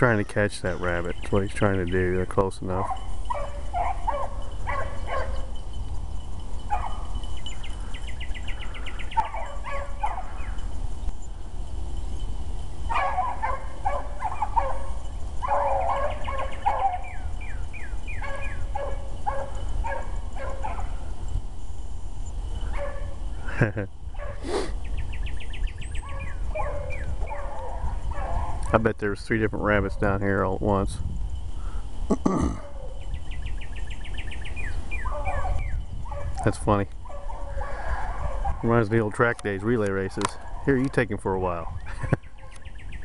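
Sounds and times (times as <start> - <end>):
hounds baying: 0.0 - 11.5, 12.8 - 21.4, 22.3 - 24.8, 25.4 - 29.0, 32.4 - 33.1, 34.0 - 42.7.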